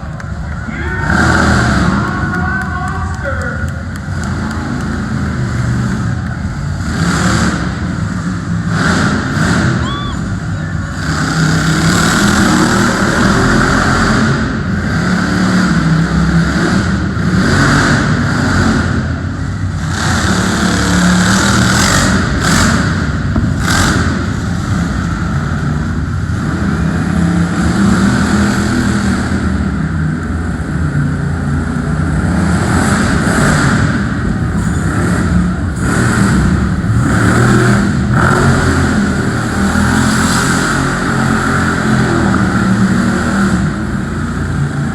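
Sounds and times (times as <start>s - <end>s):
truck engine revving: 0.0s - 44.9s.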